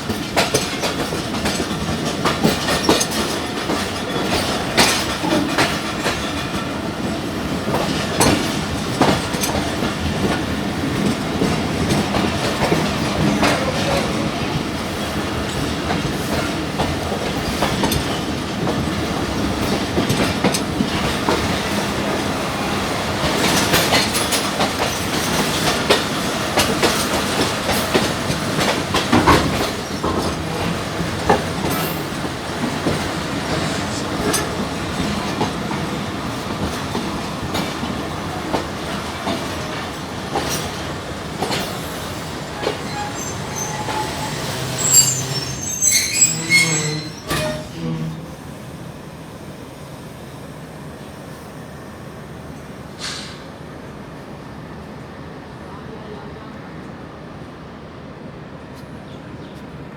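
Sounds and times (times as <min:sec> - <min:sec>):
train wheels clattering over rails: 0:00.0 - 0:48.4.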